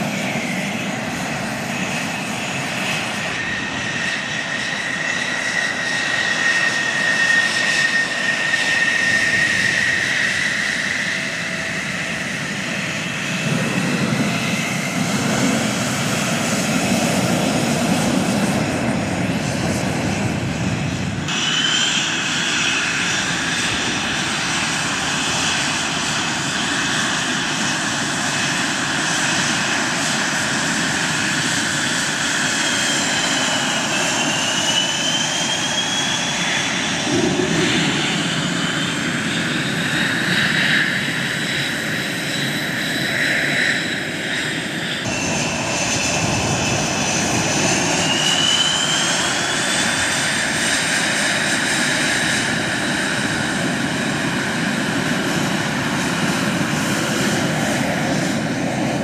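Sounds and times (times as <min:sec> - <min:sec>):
fighter jet engines whining: 0:00.0 - 0:59.0
jet rumble: 0:00.0 - 0:59.0.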